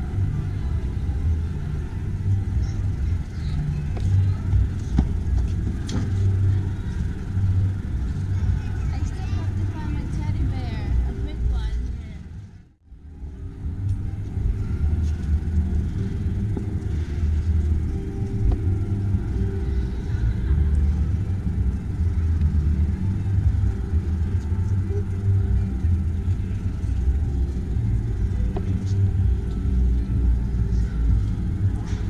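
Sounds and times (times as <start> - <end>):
faint voices: 0.0 - 32.0.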